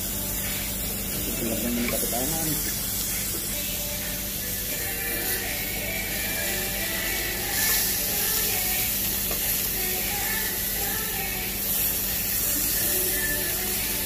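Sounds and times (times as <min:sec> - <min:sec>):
beef sizzling on grill: 0:00.0 - 0:14.0
faint background music: 0:00.0 - 0:14.0.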